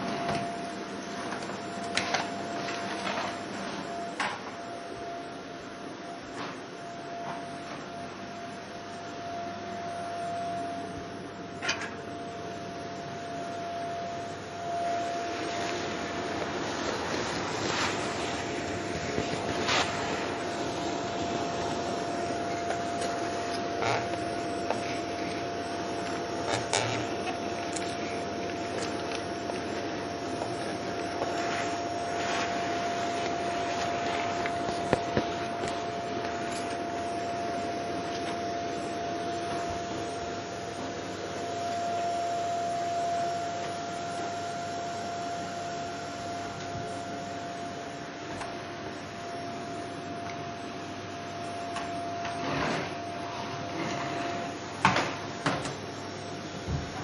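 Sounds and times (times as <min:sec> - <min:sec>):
vacuum cleaner whine: 0:00.0 - 0:57.0.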